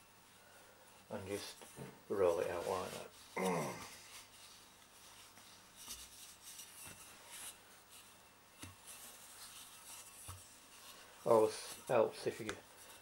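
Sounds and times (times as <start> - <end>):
flask rolling pastry dough: 0.9 - 13.0.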